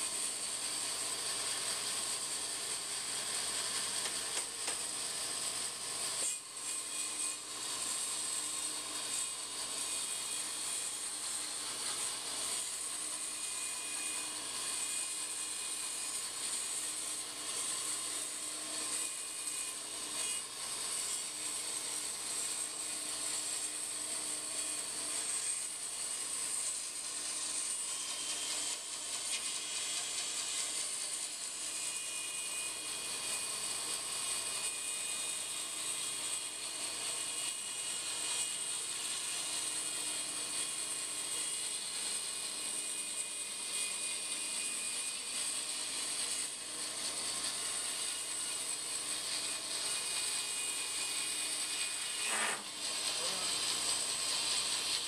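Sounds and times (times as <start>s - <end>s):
bandsaw cutting wood: 0.0s - 55.0s.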